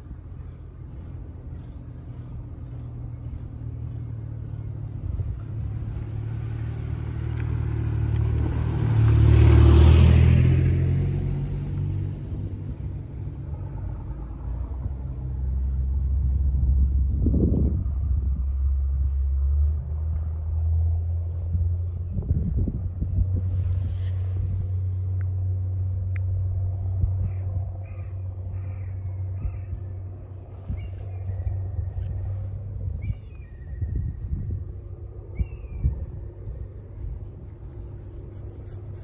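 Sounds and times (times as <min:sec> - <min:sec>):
truck engine rumble passing: 0:00.0 - 0:39.0.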